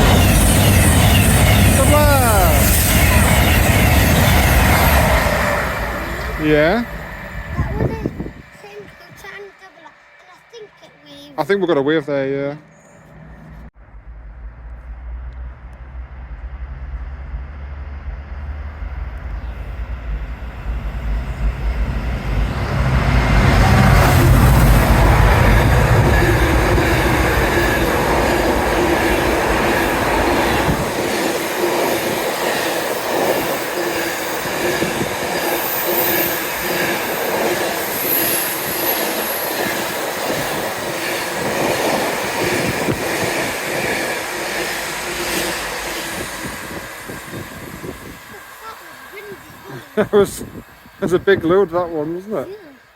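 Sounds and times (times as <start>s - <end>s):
freight train rumble: 0.0s - 52.9s.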